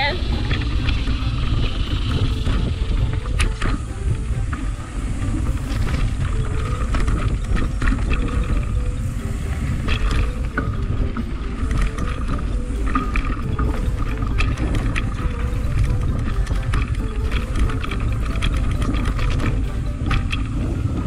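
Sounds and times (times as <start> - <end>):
bike clicking and rattling: 0.0 - 21.0
wind and tyre rumble: 0.0 - 21.0.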